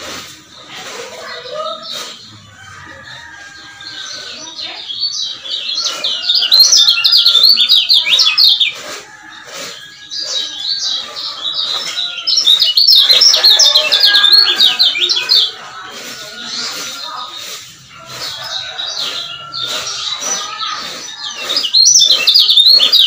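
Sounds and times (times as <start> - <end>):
bird singing high chattering notes: 0.0 - 23.0.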